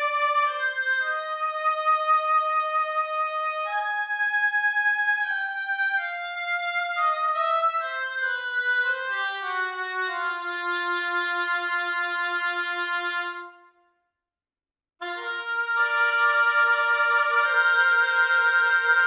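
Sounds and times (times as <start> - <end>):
woodwind melody: 0.0 - 13.9, 15.0 - 19.0.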